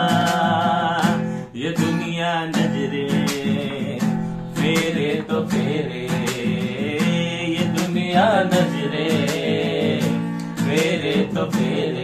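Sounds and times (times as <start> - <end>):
acoustic guitar strumming: 0.0 - 12.0
person singing: 0.0 - 12.0.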